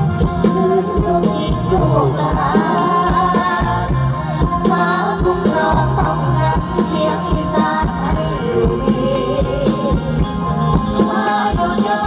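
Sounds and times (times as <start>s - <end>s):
band music with bass: 0.0s - 12.0s
person singing: 0.0s - 12.0s.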